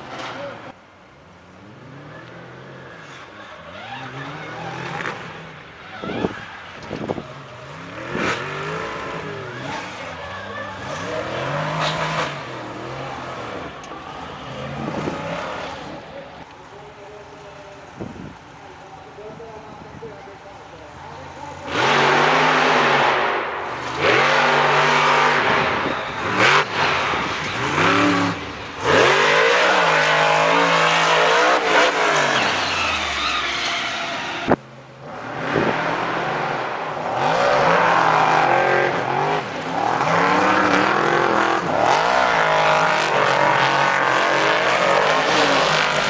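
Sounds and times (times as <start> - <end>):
truck engines revving: 0.0 - 46.0.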